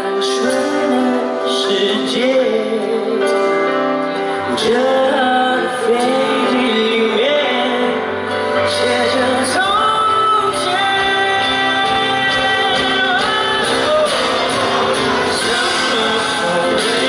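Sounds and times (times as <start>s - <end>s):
live pop song by band: 0.0s - 17.0s.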